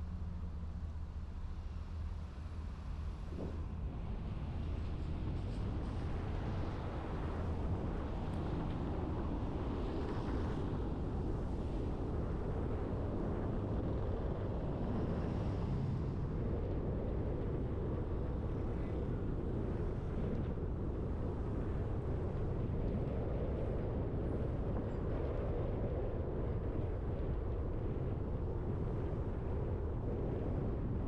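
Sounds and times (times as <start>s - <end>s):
car road and engine noise: 0.0s - 31.0s.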